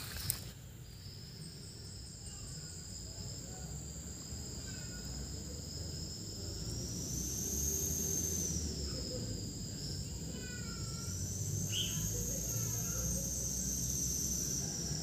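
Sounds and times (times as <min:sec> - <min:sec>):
insect chorus shrilling: 0:00.0 - 0:15.0.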